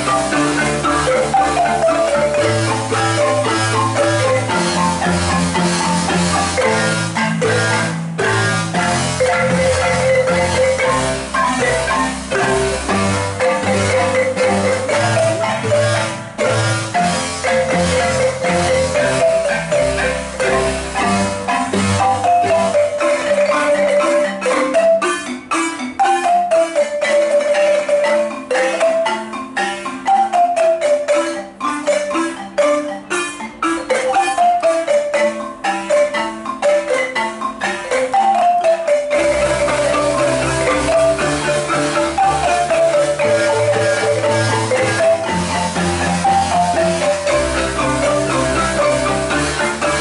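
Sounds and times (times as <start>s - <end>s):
deep bass marimba notes: 0.0s - 50.0s
marimba ensemble playing: 0.0s - 50.0s.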